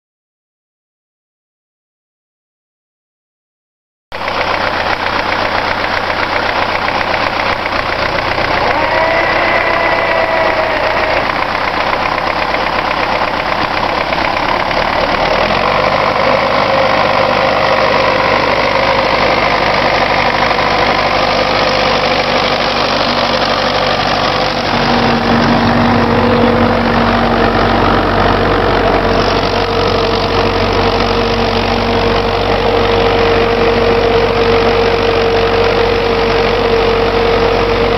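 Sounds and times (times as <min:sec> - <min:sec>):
tractor diesel engine under load: 0:04.1 - 0:37.9.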